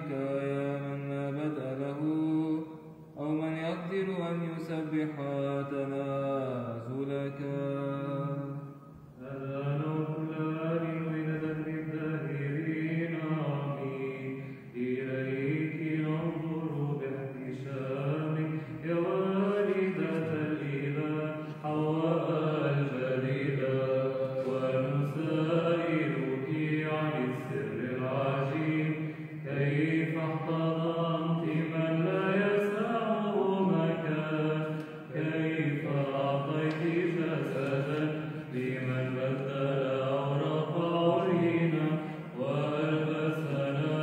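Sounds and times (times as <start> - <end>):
person chanting a hymn: 0.0 - 44.0.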